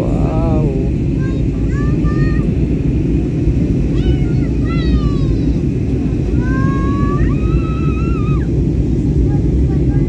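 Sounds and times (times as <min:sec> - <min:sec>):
jet engine cabin rumble: 0:00.0 - 0:10.0.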